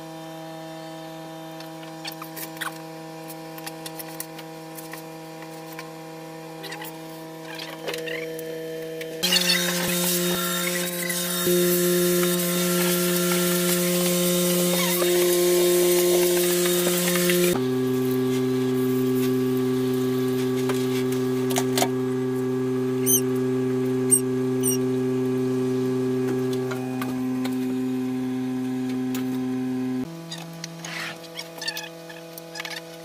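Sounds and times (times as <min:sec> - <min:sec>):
grooming machine humming: 0:00.0 - 0:33.0.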